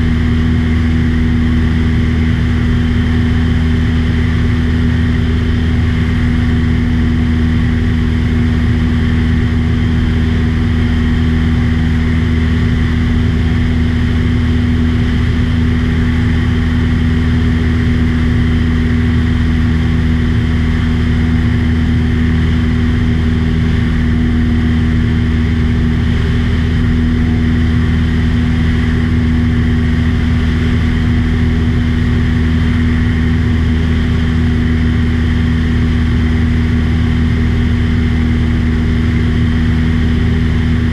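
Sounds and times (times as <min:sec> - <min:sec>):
small aircraft engine drone: 0:00.0 - 0:40.9.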